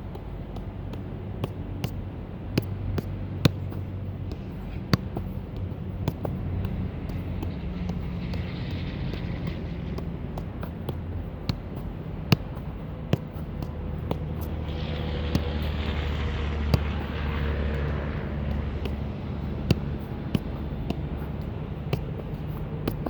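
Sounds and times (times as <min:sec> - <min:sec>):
truck engines idling: 0:00.0 - 0:23.0
passing vehicle: 0:02.3 - 0:23.0.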